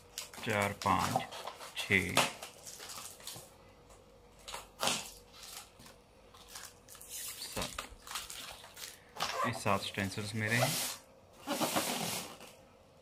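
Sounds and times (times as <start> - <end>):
plastic rustling: 0.0 - 12.6.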